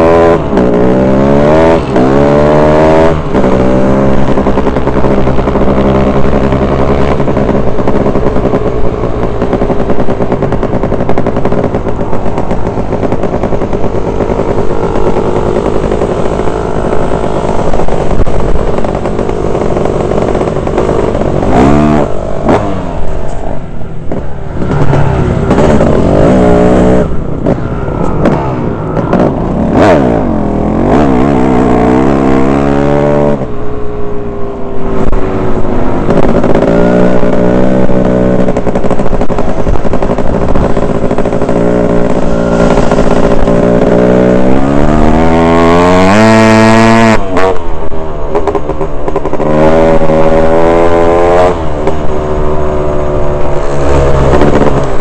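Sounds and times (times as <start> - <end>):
dirt bike engine revving: 0.0 - 23.4, 24.0 - 33.6, 34.8 - 47.8, 48.4 - 55.0
other dirt bikes nearby: 0.0 - 55.0.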